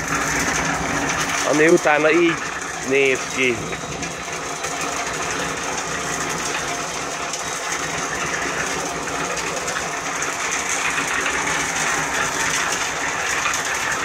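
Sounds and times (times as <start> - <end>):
electric concrete mixer running: 0.0 - 14.0.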